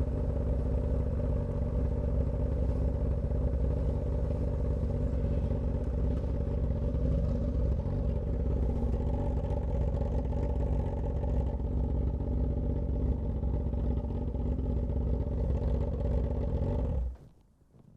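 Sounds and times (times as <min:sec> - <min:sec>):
motorcycle engine running at low revs: 0:00.0 - 0:17.3.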